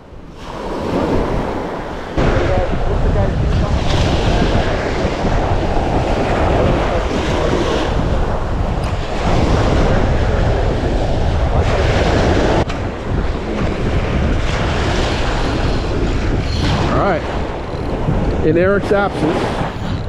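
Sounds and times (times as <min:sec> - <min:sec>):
surf washing onto beach: 0:00.0 - 0:19.8
wind buffeting microphone: 0:00.0 - 0:20.0.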